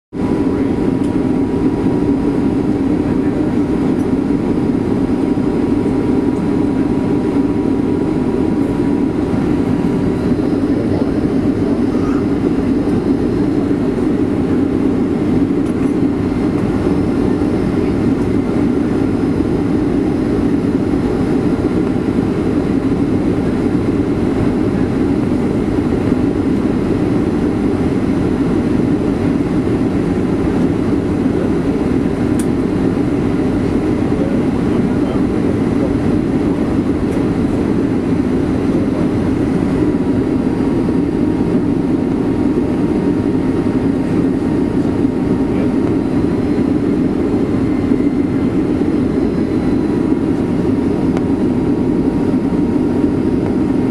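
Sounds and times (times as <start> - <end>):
airplane cabin engine rumble: 0.1 - 53.9.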